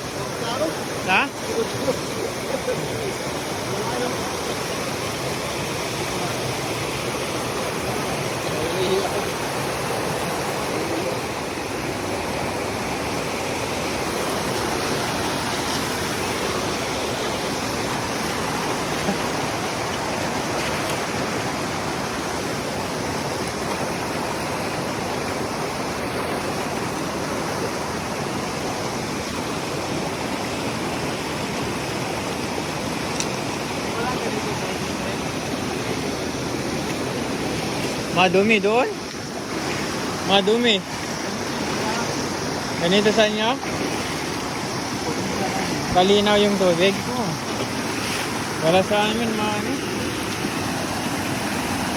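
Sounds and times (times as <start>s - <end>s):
stream and waterfall over rocks: 0.0s - 51.9s.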